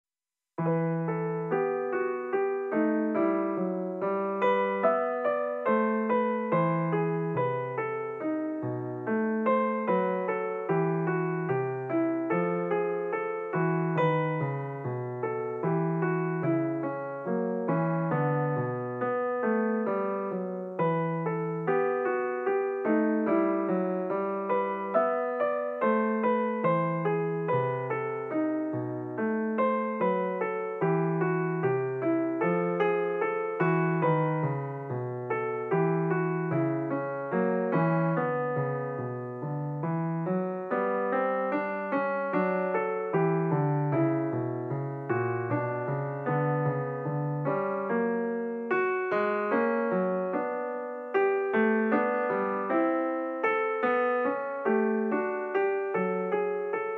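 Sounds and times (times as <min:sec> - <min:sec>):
solo piano music: 0:00.6 - 0:56.9.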